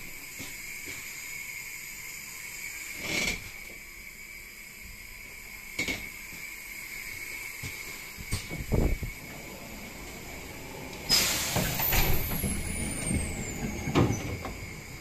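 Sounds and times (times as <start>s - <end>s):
steady hiss with high whine: 0.0s - 15.0s.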